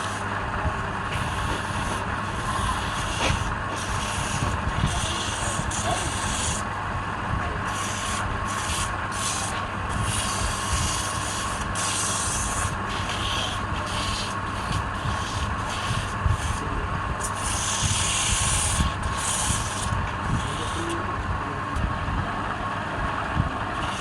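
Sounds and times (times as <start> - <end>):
lathe motor hum: 0.0 - 24.0
abrasive sanding strokes: 1.1 - 6.7, 7.6 - 21.1, 23.8 - 24.0.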